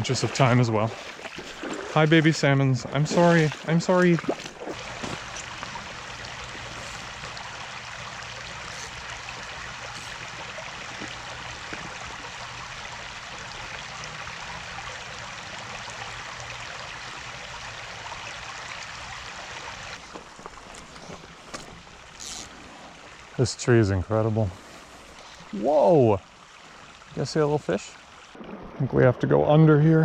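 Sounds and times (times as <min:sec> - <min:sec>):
creek running over rocks: 0:00.0 - 0:30.0.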